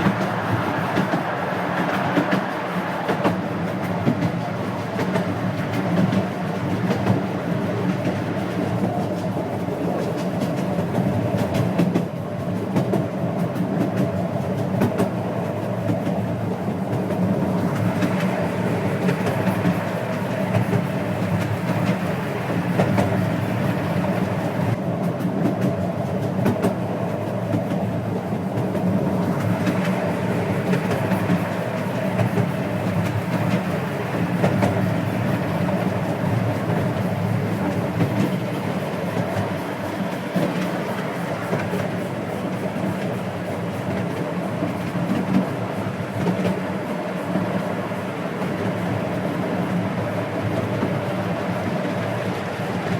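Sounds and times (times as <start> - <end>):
wheels rumbling on rail: 0.0 - 52.9.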